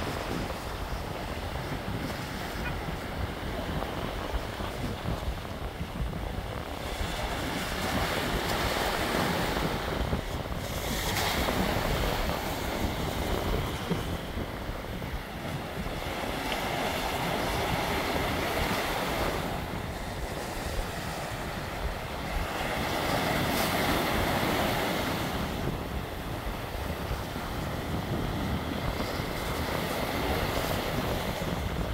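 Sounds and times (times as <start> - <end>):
sea waves breaking on rocks: 0.0 - 31.9
wind rumbling on microphone: 0.0 - 31.9.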